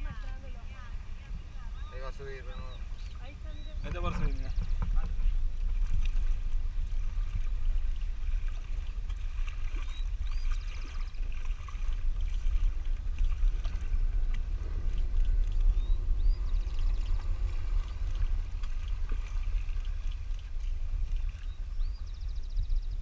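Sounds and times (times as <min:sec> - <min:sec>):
low rumble: 0:00.0 - 0:23.0
water lapping against hull: 0:00.0 - 0:23.0.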